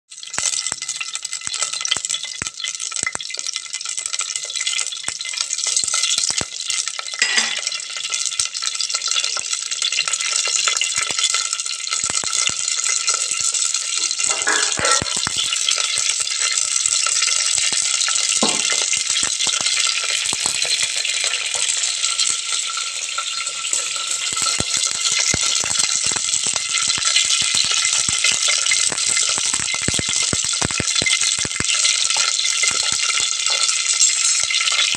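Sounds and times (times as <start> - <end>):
seeds popping in hot oil: 0.1 - 34.9.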